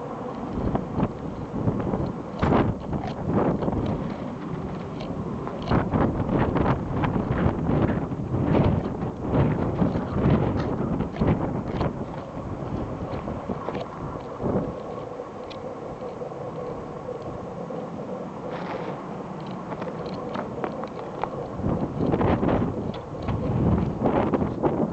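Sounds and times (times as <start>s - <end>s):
faint steady hum: 0.0s - 24.9s
wind buffeting microphone: 0.0s - 24.9s.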